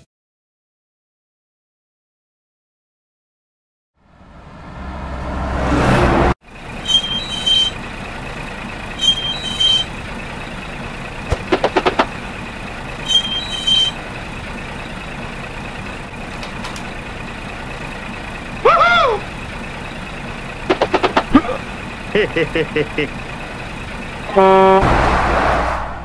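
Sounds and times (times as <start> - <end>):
heavy truck engine: 4.0 - 26.0.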